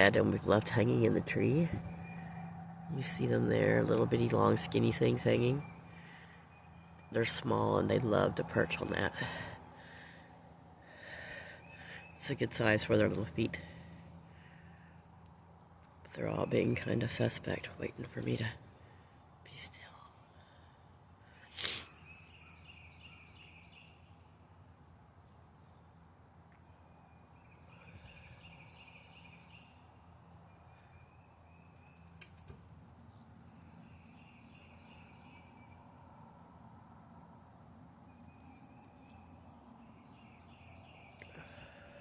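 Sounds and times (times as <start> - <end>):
low steady background hum: 0.0 - 42.0.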